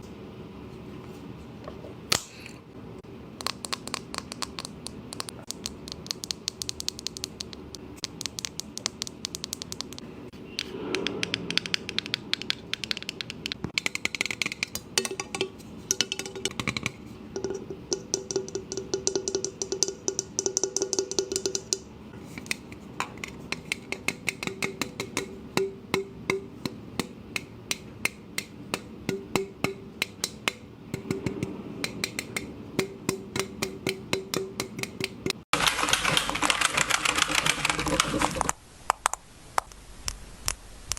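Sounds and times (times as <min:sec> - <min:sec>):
tapping and scratching on objects: 0:03.4 - 0:10.0, 0:11.3 - 0:39.7.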